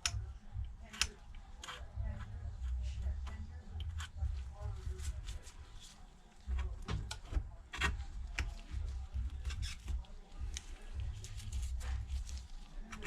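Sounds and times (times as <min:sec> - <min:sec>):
low rumble of handling noise: 0:00.0 - 0:13.0.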